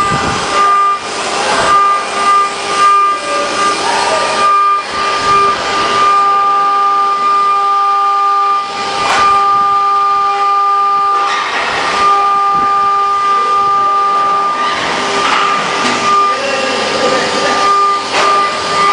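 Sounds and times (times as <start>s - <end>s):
milling machine high whine: 0.0s - 18.9s.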